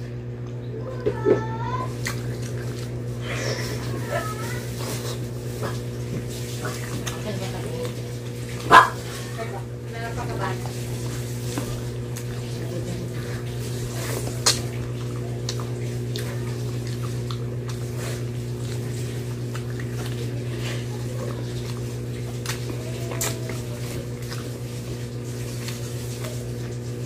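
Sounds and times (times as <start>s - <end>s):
steady low hum: 0.0s - 27.0s
wet chewing and lip-smacking: 1.9s - 9.3s, 10.6s - 27.0s.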